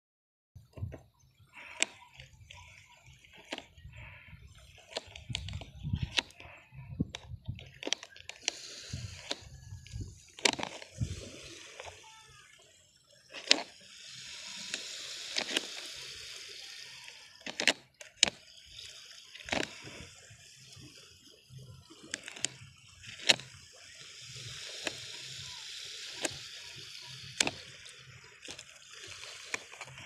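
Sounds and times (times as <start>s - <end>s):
sharp plastic clicks: 1.6s - 12.1s, 13.3s - 30.0s.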